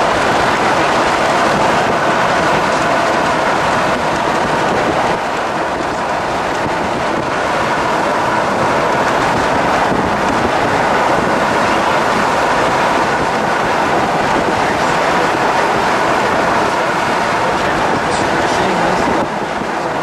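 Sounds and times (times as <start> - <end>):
vehicle road noise: 0.0 - 20.0
wind on microphone: 0.0 - 20.0.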